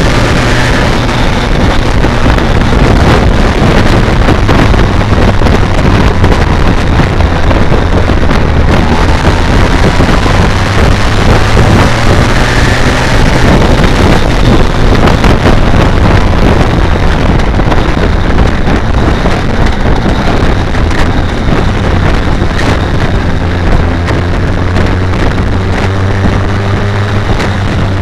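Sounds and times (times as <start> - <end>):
motorcycle engine running: 0.0 - 28.0
wind rush over microphone: 0.0 - 28.0.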